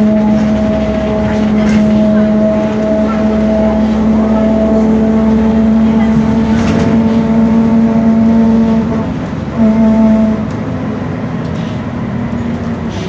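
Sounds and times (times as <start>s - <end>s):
bus differential whining: 0.0s - 13.0s.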